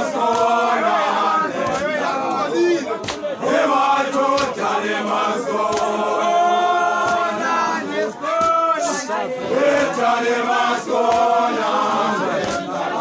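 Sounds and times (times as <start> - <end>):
group of people singing: 0.0 - 13.0.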